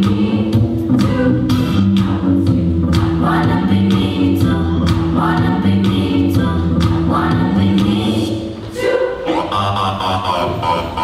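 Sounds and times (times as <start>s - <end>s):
children singing together: 0.0s - 10.8s.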